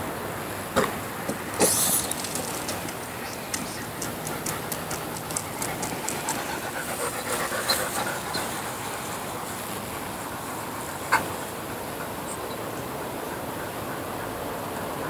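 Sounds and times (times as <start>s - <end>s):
steady background hiss: 0.0s - 15.0s
dog panting: 0.8s - 15.0s.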